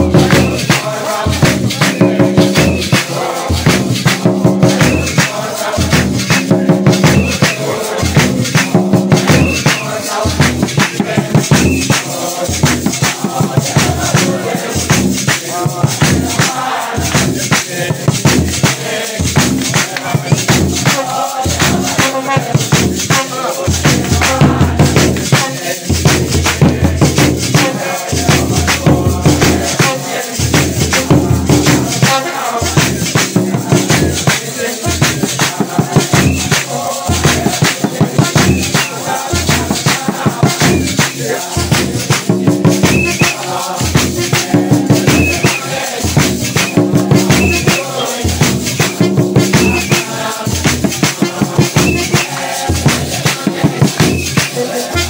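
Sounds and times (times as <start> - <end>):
drums beaten in fast rhythm: 0.0 - 55.0
hand clapping: 0.0 - 55.0
shaker rattling: 0.0 - 55.0.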